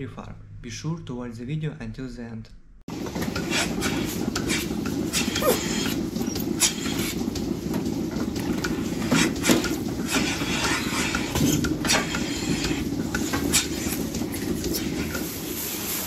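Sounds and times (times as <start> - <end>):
milking machinery hum: 2.9 - 16.0.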